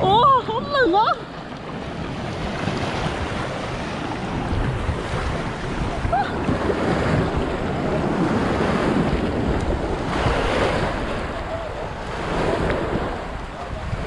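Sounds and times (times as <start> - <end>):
water sloshing and splashing: 0.0 - 13.5
wind rumbling on microphone: 0.0 - 14.0.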